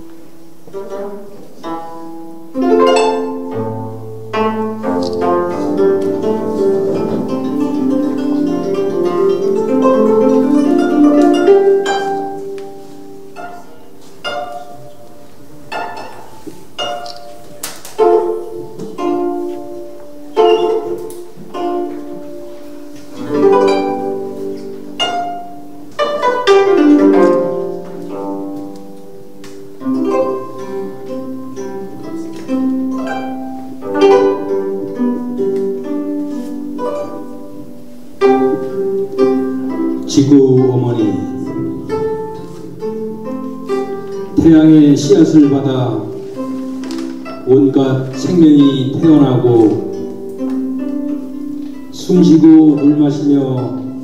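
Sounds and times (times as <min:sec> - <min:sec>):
plucked zither solo: 0:00.0 - 0:54.0.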